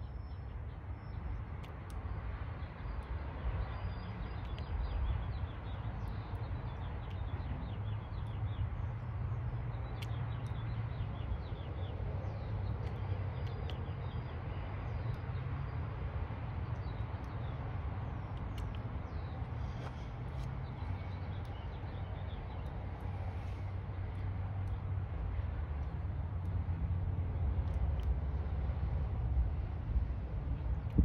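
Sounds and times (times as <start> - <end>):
small birds chirping: 0.0 - 26.7
steady low rumble: 0.0 - 31.0
faint clicks: 0.4 - 11.7, 12.3 - 15.8, 16.5 - 26.6, 27.4 - 29.1.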